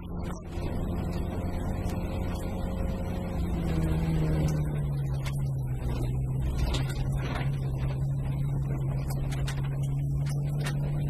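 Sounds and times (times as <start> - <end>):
rally car engine at high revs: 0.0 - 11.0
road noise on gravel: 0.0 - 11.0.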